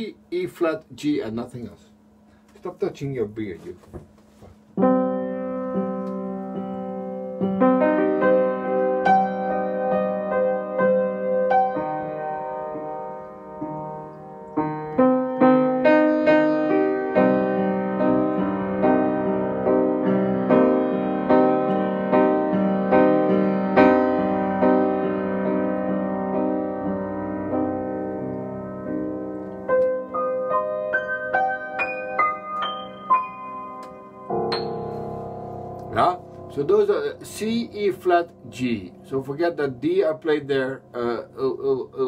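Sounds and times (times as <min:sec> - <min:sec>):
upright piano playing: 0:04.7 - 0:42.0.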